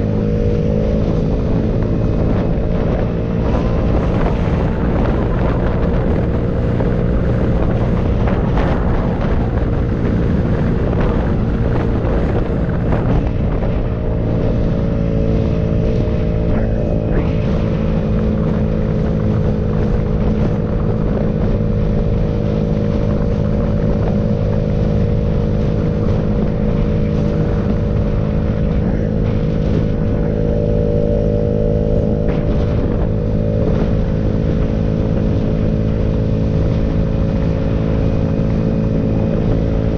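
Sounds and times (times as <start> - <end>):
vehicle engine cruising: 0.0 - 39.9.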